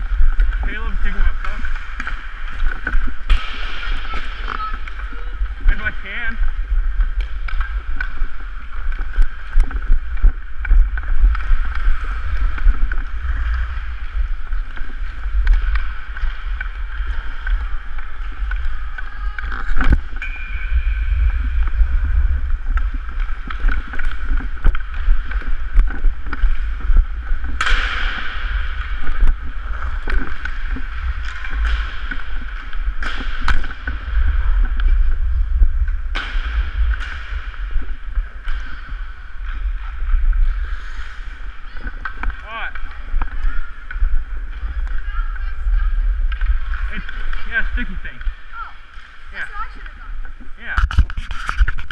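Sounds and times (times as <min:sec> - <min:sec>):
stick and puck clacks: 0:00.0 - 0:49.1, 0:49.7 - 0:51.9
low rumble: 0:00.0 - 0:51.9
skates carving on ice: 0:00.0 - 0:51.9.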